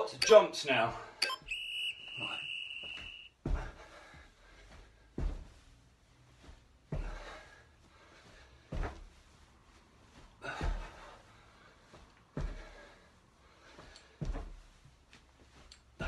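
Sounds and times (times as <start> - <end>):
feet landing with dull thuds: 1.6 - 16.0.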